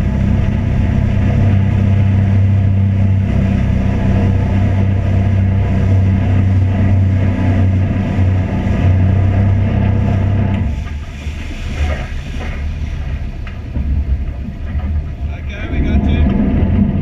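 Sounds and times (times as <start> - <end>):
engine humming with rushing noise: 0.0 - 17.0.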